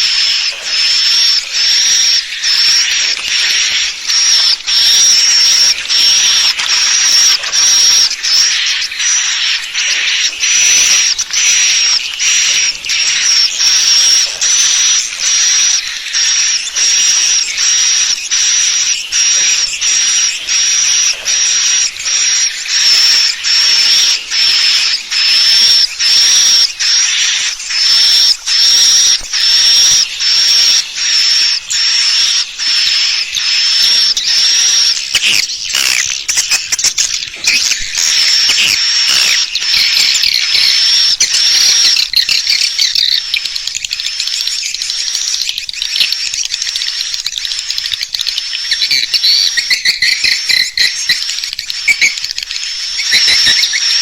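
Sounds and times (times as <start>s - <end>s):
harsh buzzy swiftlet chirps: 0.0s - 54.0s.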